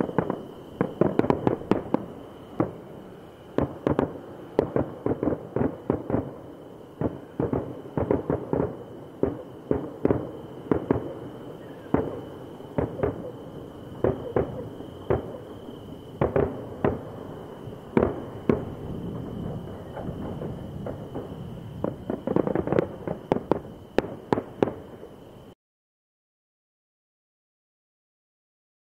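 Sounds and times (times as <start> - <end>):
fireworks bangs: 0.0 - 25.4.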